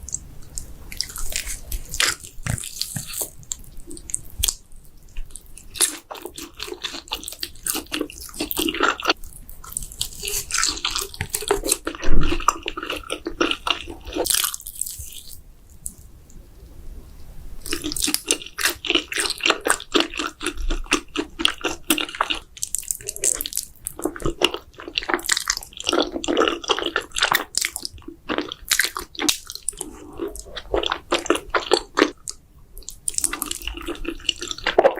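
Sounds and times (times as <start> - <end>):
wet chewing and mouth smacks: 0.0 - 16.1, 17.6 - 34.9.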